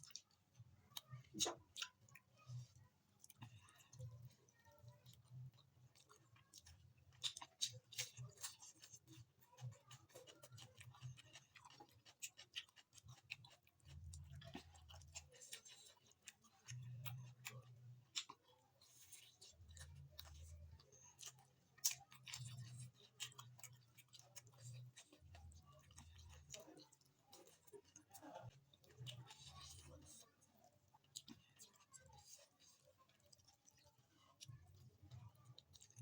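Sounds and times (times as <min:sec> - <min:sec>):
close chewing and mouth clicks: 0:00.0 - 0:36.0.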